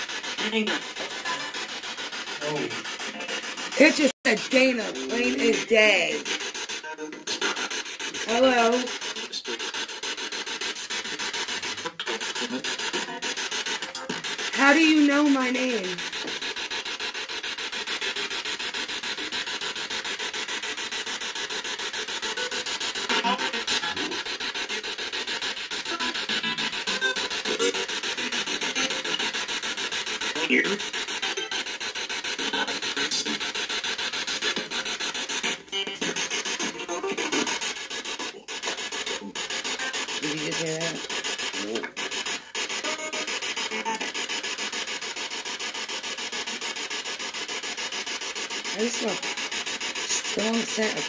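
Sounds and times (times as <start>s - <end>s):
radio scanner chopped static: 0.0s - 51.0s
snatch of broadcast sound: 0.0s - 51.0s.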